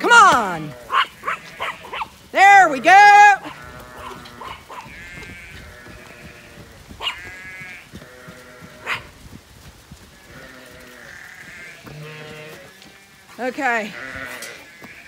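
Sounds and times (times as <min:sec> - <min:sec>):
sheep bleating: 0:00.0 - 0:09.1, 0:10.1 - 0:15.0.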